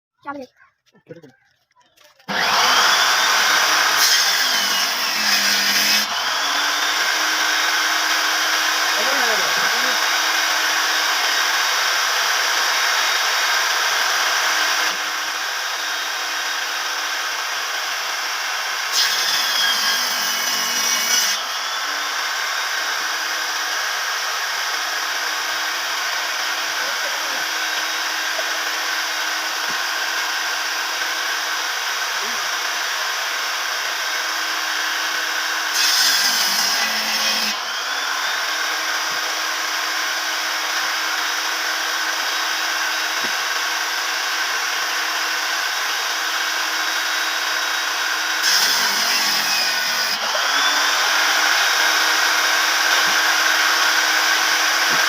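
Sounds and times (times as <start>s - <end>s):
electric power tool cutting wood: 2.2s - 55.0s.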